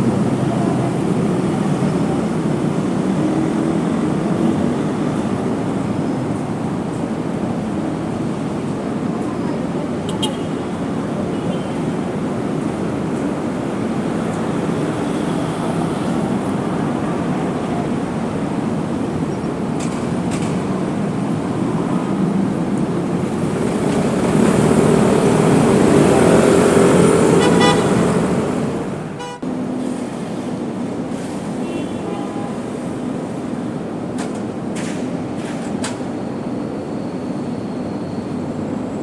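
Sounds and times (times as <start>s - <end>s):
city street traffic: 0.0s - 39.0s.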